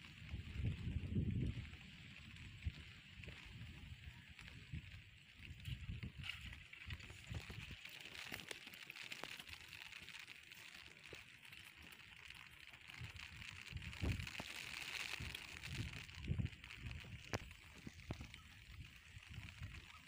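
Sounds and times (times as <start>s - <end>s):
steady high-pitched hiss: 0.0s - 20.0s.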